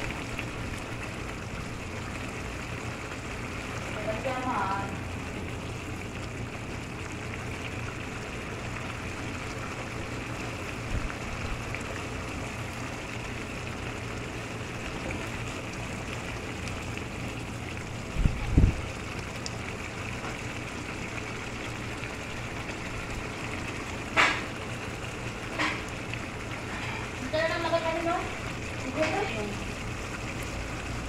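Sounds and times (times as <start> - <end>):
sauce bubbling in a pan: 0.0 - 31.0.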